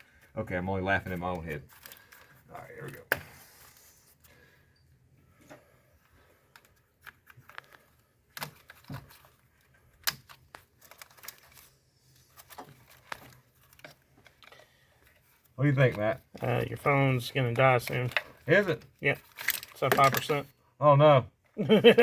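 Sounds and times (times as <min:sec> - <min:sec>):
wires rustling and crinkling: 0:00.0 - 0:20.8.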